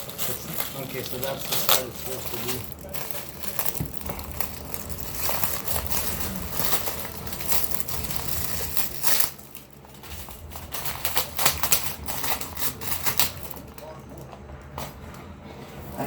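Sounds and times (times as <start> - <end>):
plastic packaging crinkling: 0.0 - 14.2.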